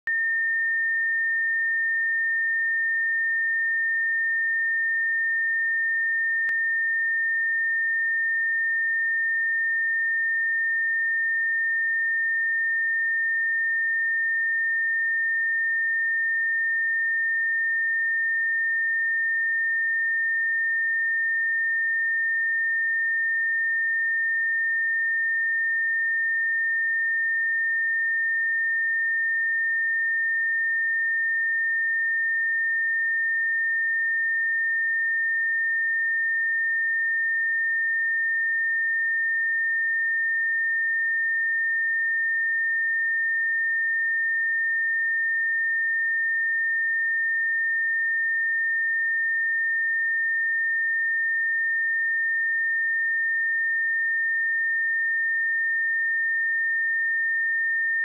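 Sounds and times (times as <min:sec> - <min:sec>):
high sine-wave test tone: 0:00.0 - 0:58.0.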